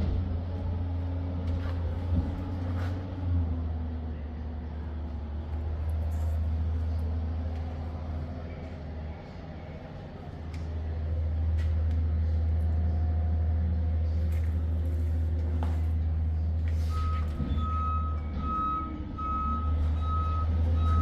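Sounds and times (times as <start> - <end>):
engine rumbling: 0.0 - 21.0.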